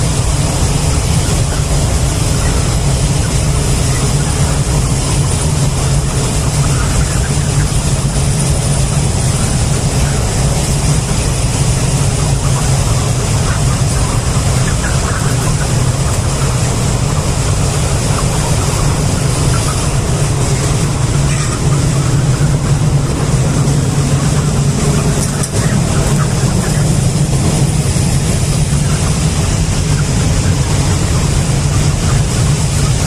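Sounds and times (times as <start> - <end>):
loud mechanical hum: 0.0 - 33.0.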